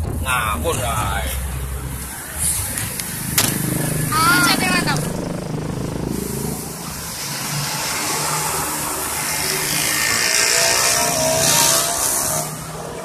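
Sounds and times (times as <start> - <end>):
vehicle passing close by: 1.8 - 13.0.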